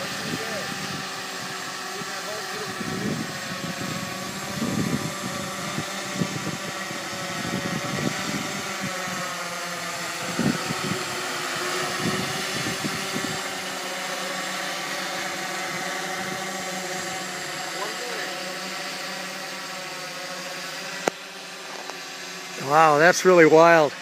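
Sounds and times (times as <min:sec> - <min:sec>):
drone propellers whining: 0:00.0 - 0:24.0
low irregular buffeting: 0:00.0 - 0:24.0.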